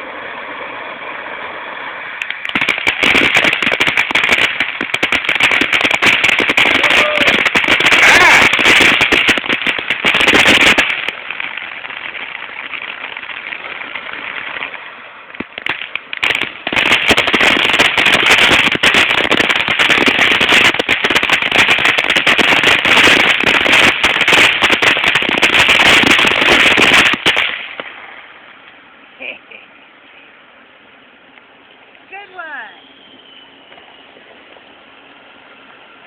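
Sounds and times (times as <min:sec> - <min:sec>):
firework crackling and popping: 0:00.0 - 0:30.4, 0:31.3 - 0:36.0.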